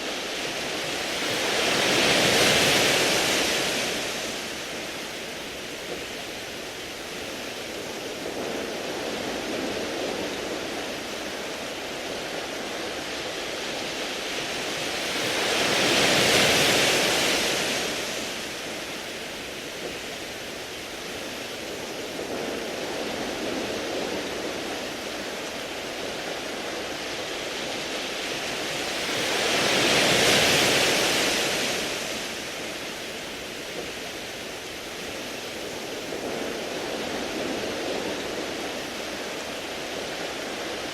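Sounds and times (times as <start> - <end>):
waves washing over pebbles: 0.0 - 40.9.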